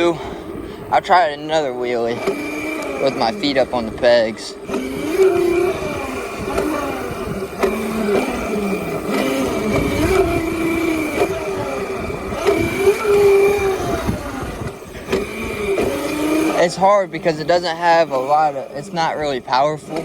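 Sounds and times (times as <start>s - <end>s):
electric motor whining: 0.0s - 20.0s
tyres and wind rumble: 0.0s - 20.0s.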